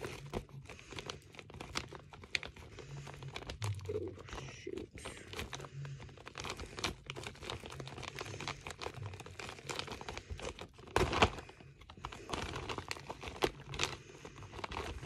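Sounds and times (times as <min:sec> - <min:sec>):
plastic pouch crinkling: 0:00.0 - 0:15.0.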